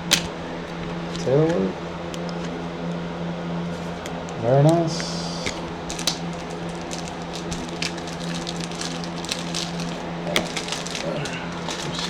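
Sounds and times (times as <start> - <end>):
trading cards crackling: 0.0 - 2.5, 3.7 - 12.0
steady low hum: 0.0 - 12.0.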